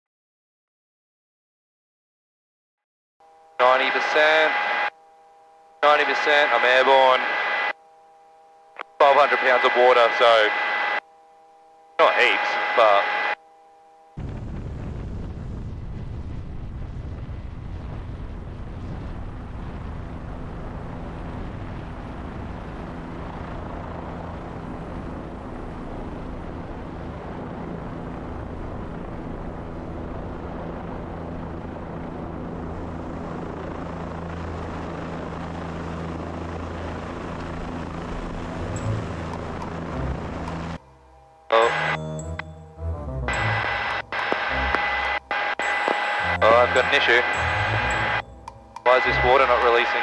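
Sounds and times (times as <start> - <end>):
helicopter engine and rotors: 3.3 - 7.7, 8.8 - 11.0, 12.0 - 13.6, 16.0 - 50.0.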